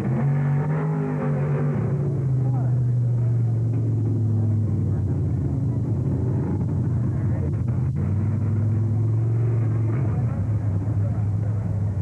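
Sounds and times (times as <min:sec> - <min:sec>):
race car engine rumbling: 0:00.0 - 0:12.0.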